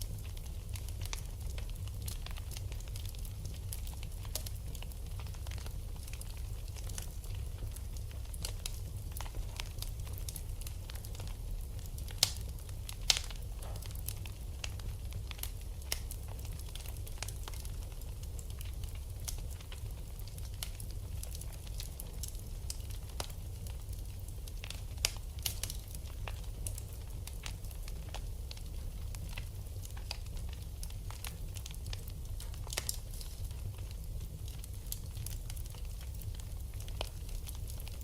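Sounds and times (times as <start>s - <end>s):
fire crackling and popping: 0.0s - 38.0s
low fire rumble: 0.0s - 38.0s.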